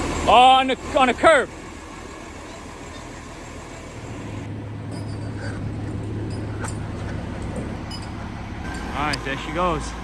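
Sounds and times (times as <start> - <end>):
truck engine running under load: 0.0 - 10.0.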